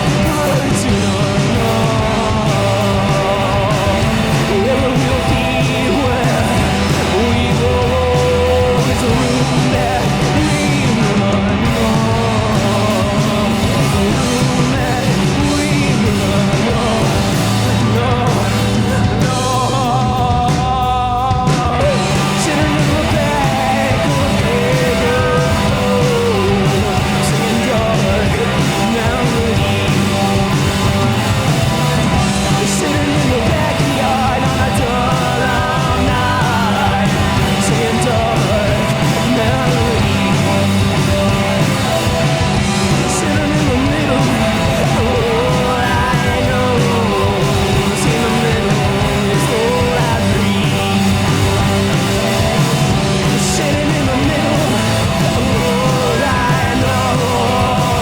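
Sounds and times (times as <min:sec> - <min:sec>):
drums: 0:00.0 - 0:58.0
electric guitar: 0:00.0 - 0:58.0
steady low bass notes: 0:00.0 - 0:58.0.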